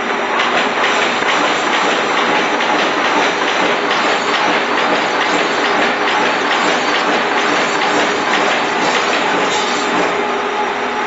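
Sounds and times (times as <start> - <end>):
fast repeating clicks: 0.4 - 10.1
paper folding machine clatter: 0.4 - 10.2.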